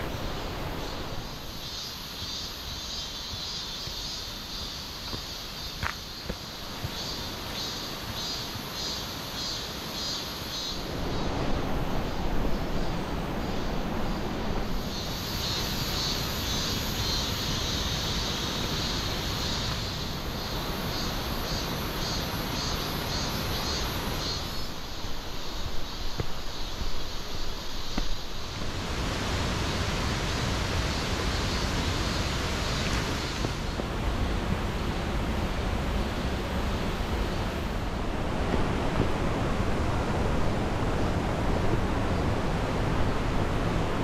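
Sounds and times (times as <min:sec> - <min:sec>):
forest rushing noise: 0:00.0 - 0:44.0.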